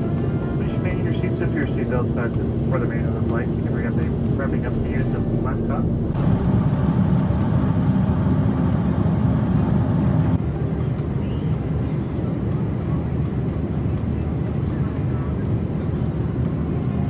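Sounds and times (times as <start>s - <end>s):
airliner engine rumble: 0.0s - 17.0s
faint hum: 0.0s - 17.0s.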